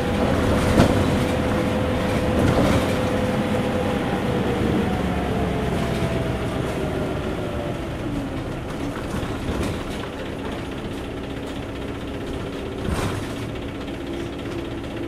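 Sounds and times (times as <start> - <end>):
diesel bus engine droning: 0.0 - 15.0.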